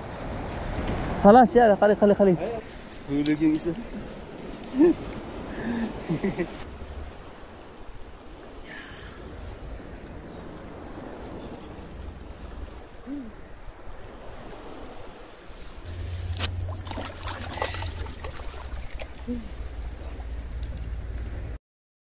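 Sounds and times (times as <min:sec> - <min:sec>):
sea waves washing on shore: 0:00.0 - 0:21.1.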